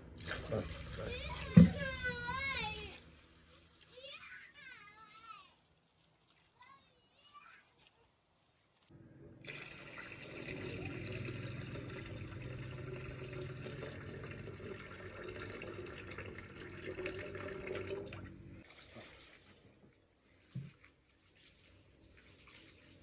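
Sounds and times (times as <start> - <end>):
water running: 0.0 - 6.8, 8.7 - 23.0.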